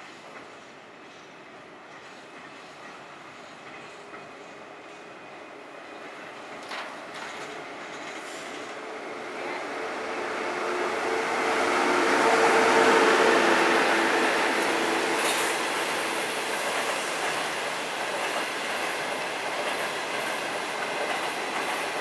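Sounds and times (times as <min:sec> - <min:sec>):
electric locomotive passing: 0:00.0 - 0:22.0.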